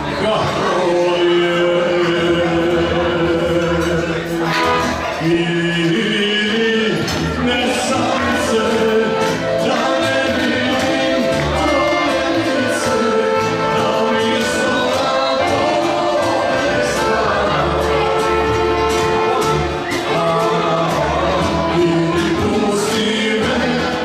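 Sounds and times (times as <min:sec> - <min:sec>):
accordion: 0:00.0 - 0:24.0
acoustic guitar: 0:00.0 - 0:24.0
double bass: 0:00.0 - 0:24.0
person singing: 0:00.0 - 0:24.0.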